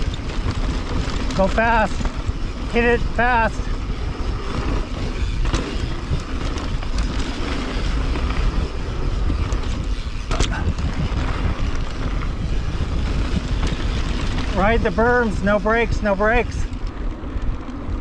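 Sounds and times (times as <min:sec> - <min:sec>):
bike knocks and rattles: 0:00.0 - 0:18.0
mountain bike rolling on dirt: 0:00.0 - 0:18.0
wind buffeting microphone: 0:00.0 - 0:18.0.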